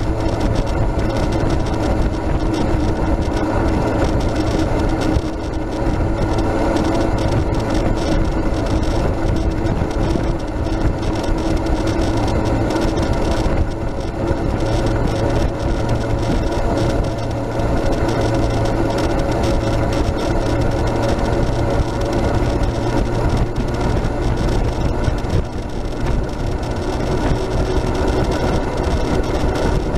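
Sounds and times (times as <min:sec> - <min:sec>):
constant low hum: 0:00.0 - 0:29.9
tires rolling on road: 0:00.0 - 0:29.9
vehicle body and tow bar rattling: 0:00.0 - 0:29.9.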